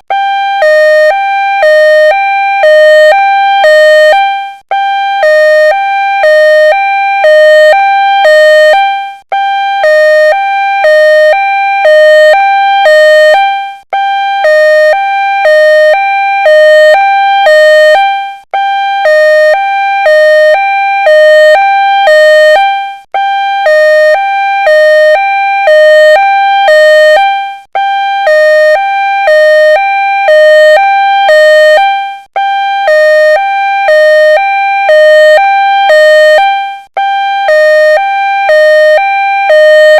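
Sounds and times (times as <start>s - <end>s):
ambulance siren hi-lo: 0.0s - 39.9s.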